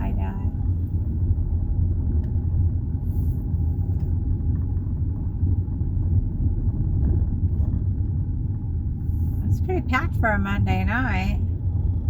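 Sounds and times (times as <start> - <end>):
car driving slowly from inside: 0.0 - 12.0.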